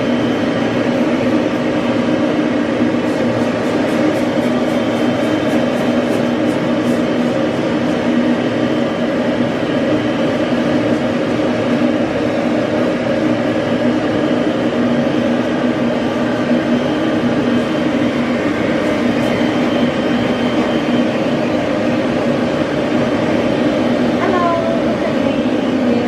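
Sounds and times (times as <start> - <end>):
rush of dryer air: 0.0 - 26.0
steady motor hum: 0.0 - 26.0.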